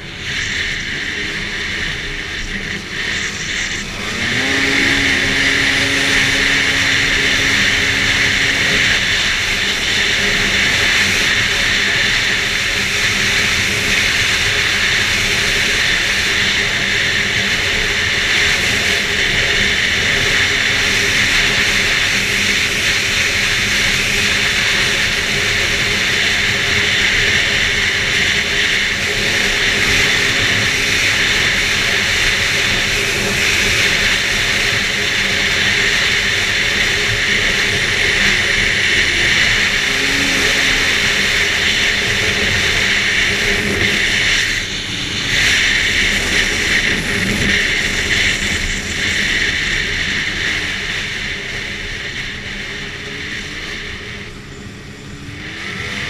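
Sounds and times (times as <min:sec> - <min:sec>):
snowmobile engine running: 0:00.0 - 0:56.0
snowmobile track noise: 0:00.0 - 0:56.0
wind noise: 0:00.0 - 0:56.0.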